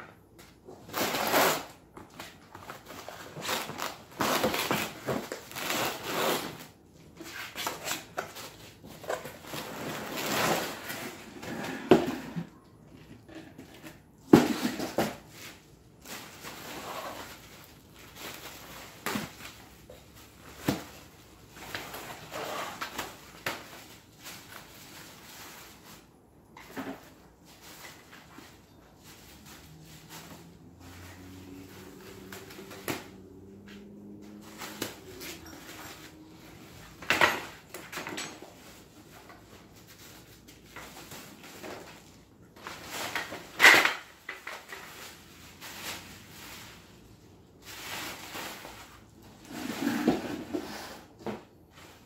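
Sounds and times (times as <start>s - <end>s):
plastic wrapping rustling: 0.2s - 11.6s, 12.4s - 50.4s.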